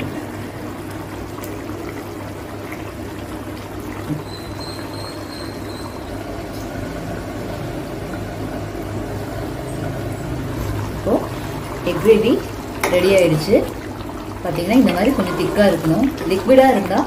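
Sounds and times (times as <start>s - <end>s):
gravy simmering in a pan: 0.0s - 17.0s.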